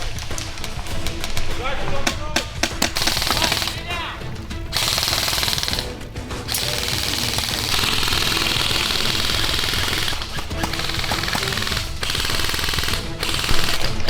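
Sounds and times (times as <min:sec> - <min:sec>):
background music: 0:00.0 - 0:14.0
airsoft guns full-auto bursts: 0:02.4 - 0:14.0.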